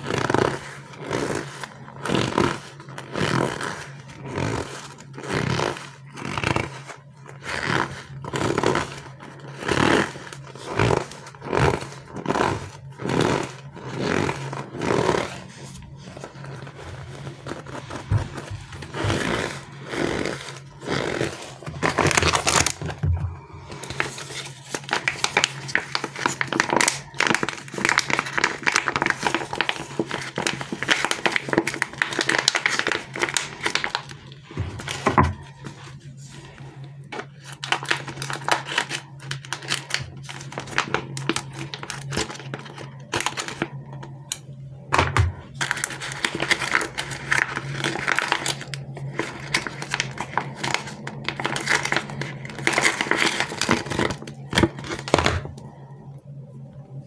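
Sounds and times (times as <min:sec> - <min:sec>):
fast plastic crinkling: 0:00.0 - 0:44.2, 0:45.4 - 0:55.6.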